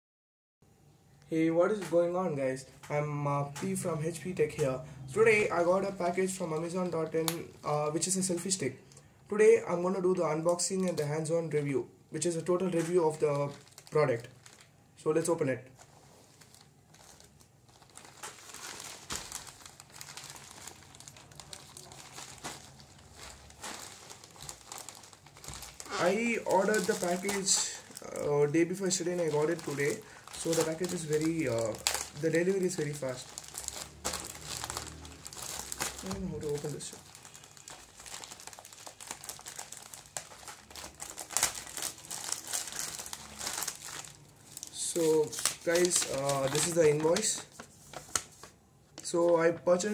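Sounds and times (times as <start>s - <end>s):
plastic bag crinkling: 3.6s - 9.0s, 9.8s - 11.4s, 12.2s - 49.2s.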